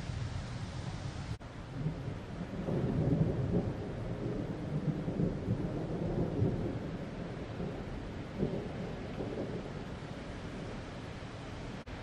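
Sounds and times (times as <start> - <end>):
rolling thunder: 1.3 - 11.2.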